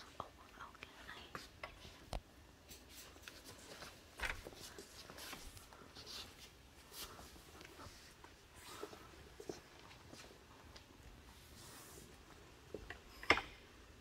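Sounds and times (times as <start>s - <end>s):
faint clicks and rustles: 0.0s - 13.7s.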